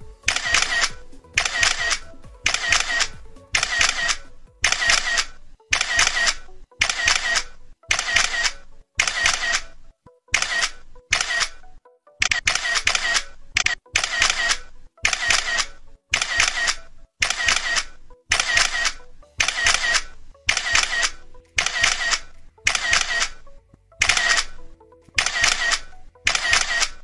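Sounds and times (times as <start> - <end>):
camera shutter clicks: 0.1 - 27.0.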